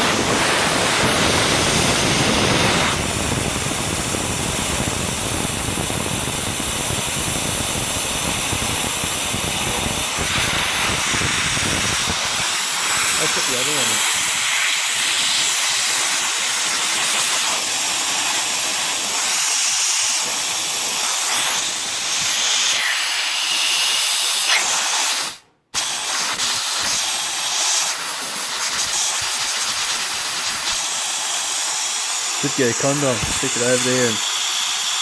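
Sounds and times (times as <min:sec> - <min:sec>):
compressed air hissing from valve: 0:00.0 - 0:35.0.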